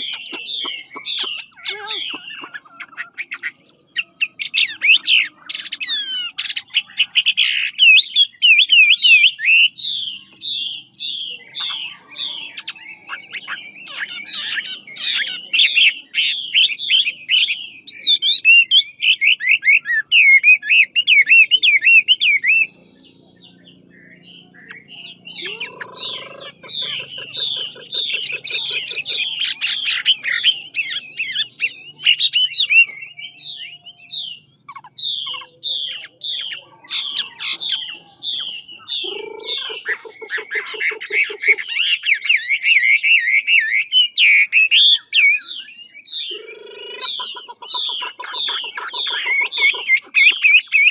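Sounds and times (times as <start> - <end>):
bird singing: 0.0 - 50.9.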